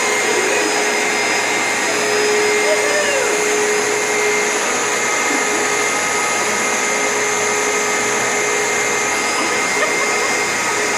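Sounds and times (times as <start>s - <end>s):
vacuum cleaner running: 0.0s - 10.9s.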